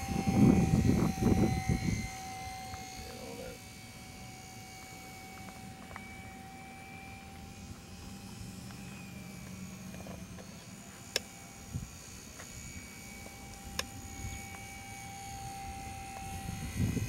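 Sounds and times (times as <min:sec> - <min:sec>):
rc plane motor whining: 0:00.0 - 0:17.0.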